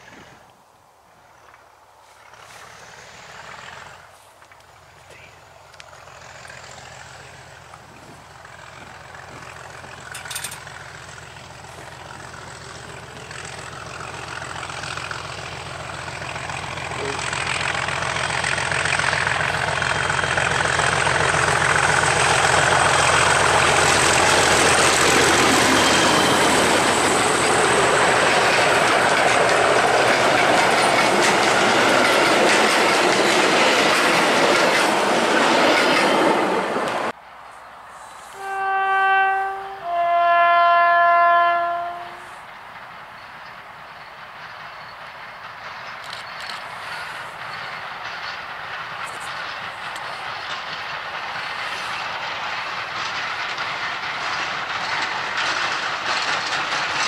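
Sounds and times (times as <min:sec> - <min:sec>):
train wheels on rails: 0:01.4 - 0:57.0
diesel locomotive engine: 0:02.0 - 0:57.0.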